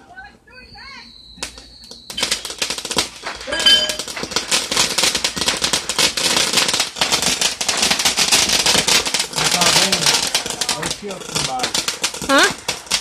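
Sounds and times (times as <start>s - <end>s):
firework crackling: 0.5s - 13.0s
firework burst: 1.3s - 13.0s.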